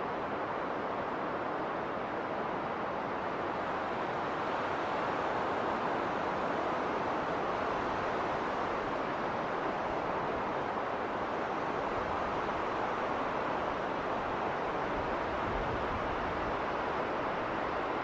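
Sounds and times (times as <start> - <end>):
wind blowing in snowstorm: 0.0 - 18.0.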